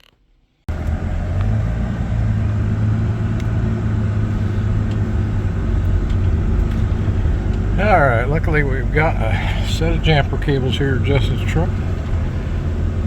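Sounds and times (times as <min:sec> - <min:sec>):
vehicle engine rumbling: 0:00.7 - 0:13.0.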